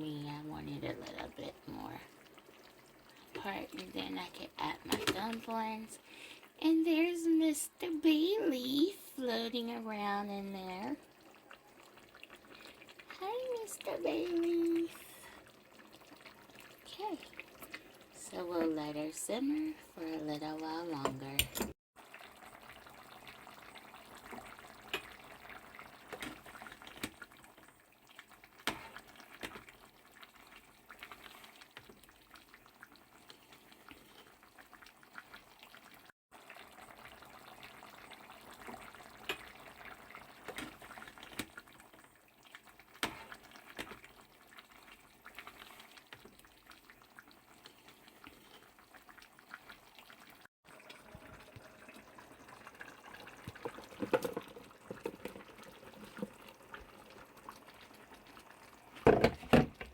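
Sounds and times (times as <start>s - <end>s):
stew bubbling with small pops: 0.0s - 6.7s, 7.8s - 59.9s.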